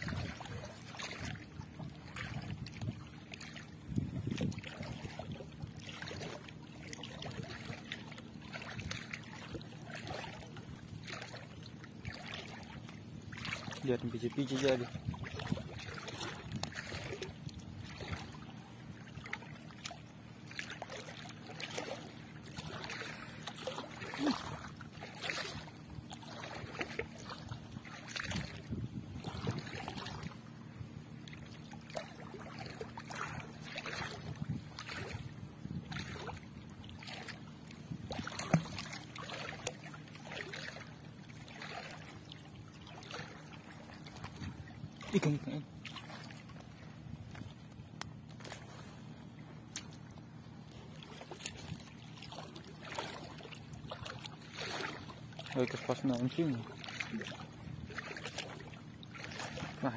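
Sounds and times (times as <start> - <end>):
water splashing and dripping: 0.0 - 3.6, 4.3 - 18.4, 19.0 - 30.3, 38.1 - 48.8, 49.7 - 59.9
steady low hum: 0.0 - 59.9.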